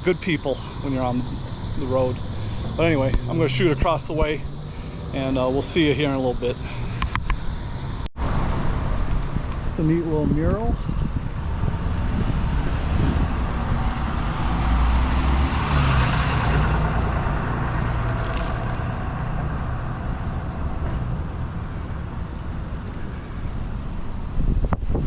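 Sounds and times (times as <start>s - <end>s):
vehicle engine passing by: 0.0s - 9.4s, 10.6s - 24.4s.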